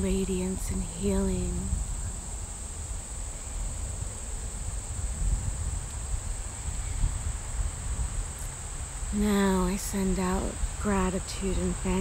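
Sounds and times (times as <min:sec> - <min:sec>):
insects trilling: 0:00.0 - 0:12.0
low uneven rumble: 0:00.0 - 0:12.0.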